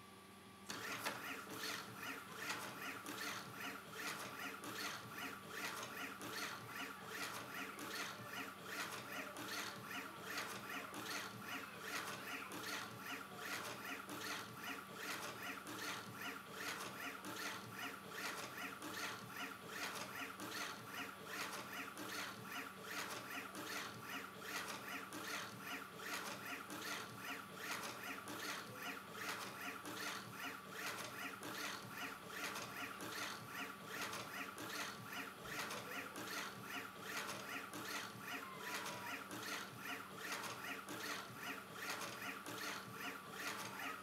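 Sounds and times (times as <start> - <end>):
stepper motors whirring: 0.7 - 44.0.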